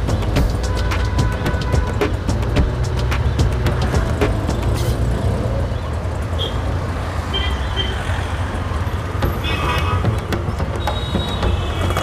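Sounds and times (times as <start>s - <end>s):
auto-rickshaw engine rumble: 0.0s - 12.0s
road noise: 0.0s - 12.0s.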